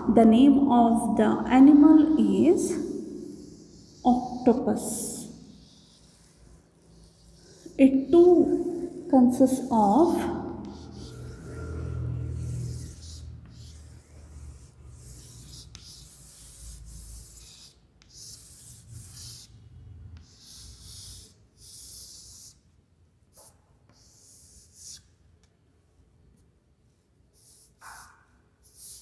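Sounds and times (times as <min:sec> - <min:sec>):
chalk scraping on chalkboard: 0:01.4 - 0:19.6, 0:20.2 - 0:25.2, 0:27.3 - 0:29.0.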